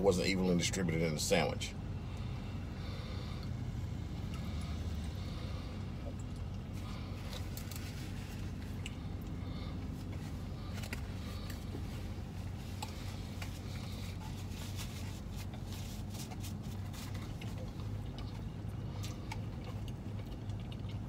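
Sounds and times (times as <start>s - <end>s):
low hum inside car: 0.0s - 21.0s
person eating: 2.2s - 21.0s.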